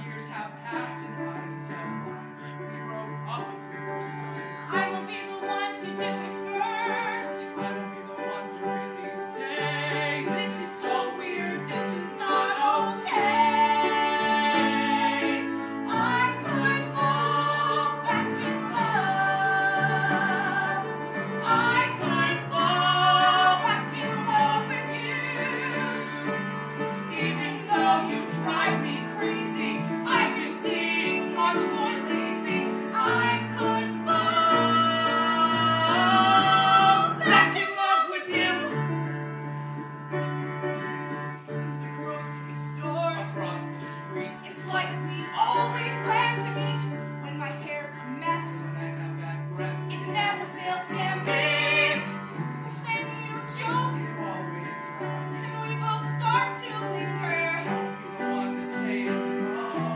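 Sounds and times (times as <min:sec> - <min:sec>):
piano accompaniment: 0:00.0 - 0:59.9.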